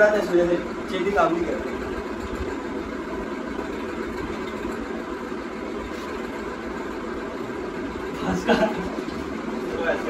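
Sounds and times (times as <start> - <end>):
machine hum with hiss: 0.0 - 10.0.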